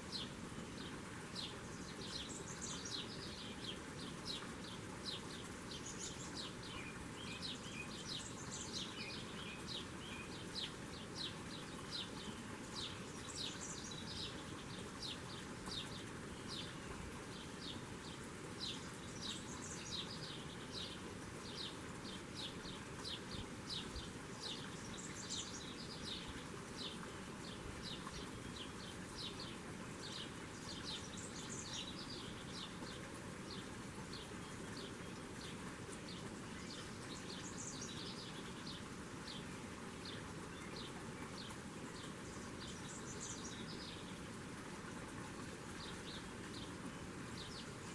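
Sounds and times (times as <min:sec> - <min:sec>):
small birds chirping: 0:00.0 - 0:47.9
steady background hiss: 0:00.0 - 0:47.9.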